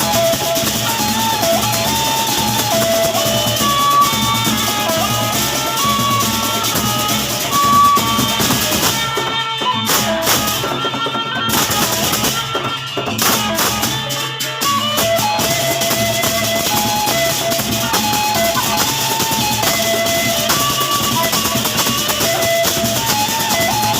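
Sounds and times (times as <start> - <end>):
held-note melody: 0.0 - 23.9
large drums beaten: 0.0 - 23.9.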